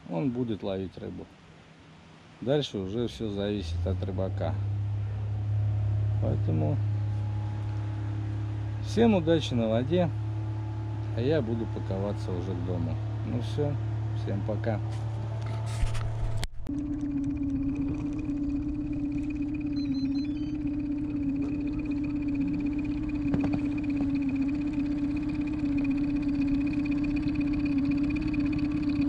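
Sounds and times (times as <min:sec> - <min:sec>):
outboard motor running: 0:02.9 - 0:29.0.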